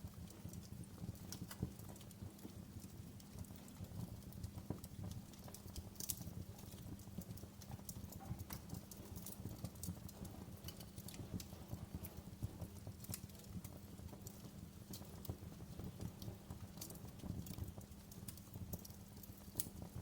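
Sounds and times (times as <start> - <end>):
fire popping and snapping: 0.0 - 20.0
low rumble of burning: 0.0 - 20.0.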